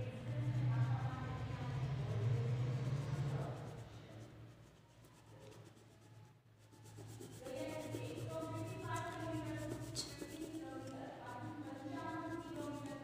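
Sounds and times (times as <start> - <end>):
crayon rubbing on paper: 0.0 - 13.0
low steady hum: 0.0 - 13.0.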